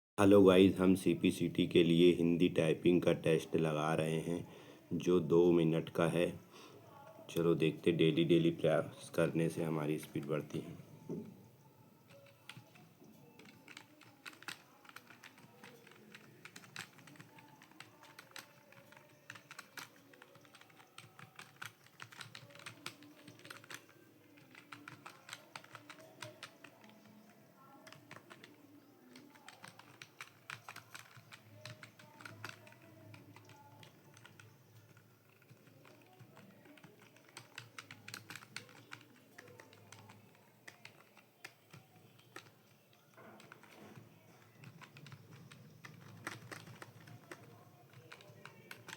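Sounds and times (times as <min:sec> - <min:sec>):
fast typing on keyboard: 0:05.4 - 0:48.9.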